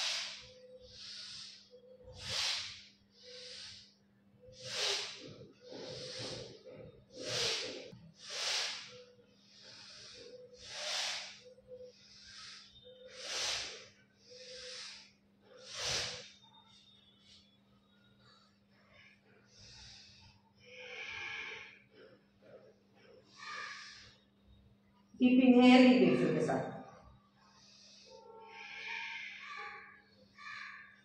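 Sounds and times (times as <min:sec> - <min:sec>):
woman breathing rhythmically: 0:00.0 - 0:25.2, 0:26.8 - 0:31.0.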